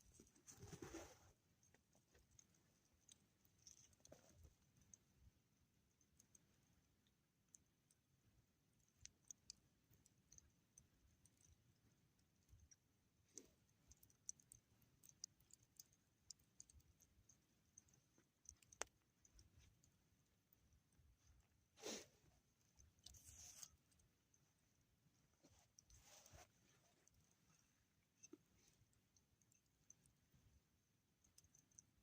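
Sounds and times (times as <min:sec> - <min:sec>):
faint small clicks: 0:00.0 - 0:32.0.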